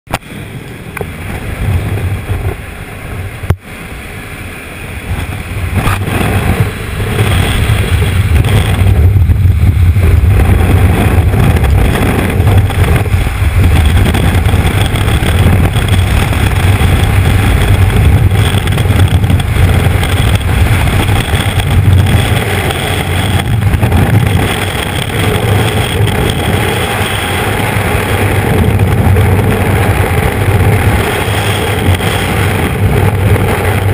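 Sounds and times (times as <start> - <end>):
wind blasting over microphone: 0.1 - 33.9.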